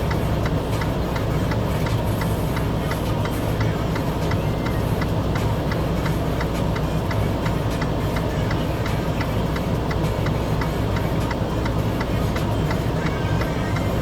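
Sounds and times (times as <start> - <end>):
light ticking: 0.0 - 13.9
vehicle engine running: 0.0 - 14.0.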